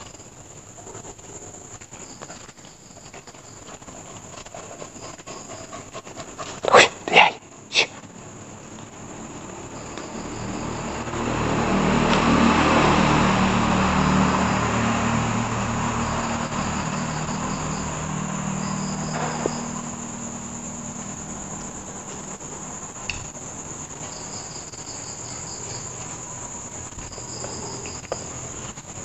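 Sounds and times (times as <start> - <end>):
crickets chirping: 0.0 - 29.0
vehicle passing engine hum: 0.0 - 29.0.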